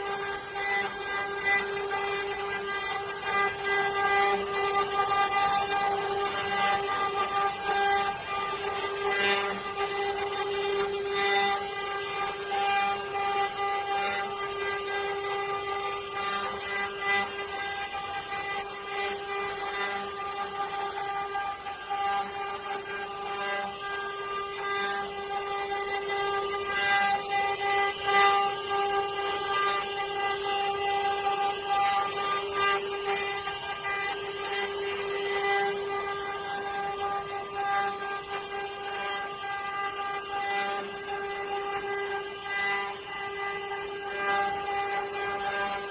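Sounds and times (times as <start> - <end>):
router bit cutting wood: 0.0 - 45.9
router spindle whine: 0.0 - 45.9.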